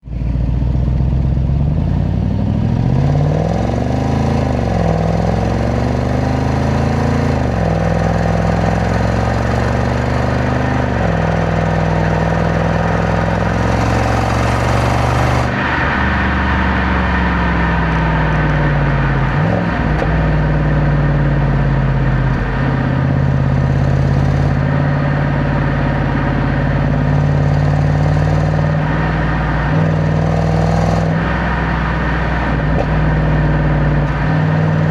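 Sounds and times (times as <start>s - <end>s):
car engine revving: 0.1s - 34.9s.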